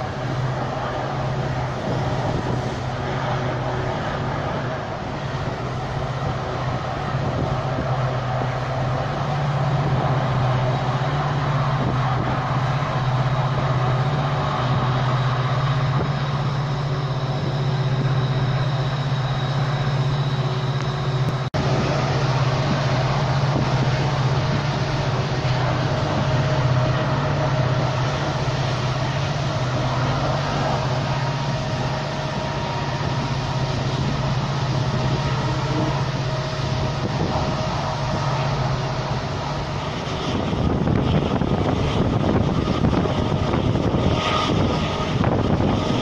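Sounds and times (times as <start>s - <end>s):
faint high whine: 0.0s - 46.0s
train engine low drone: 0.0s - 46.0s
train wheels rushing on rails: 0.0s - 46.0s.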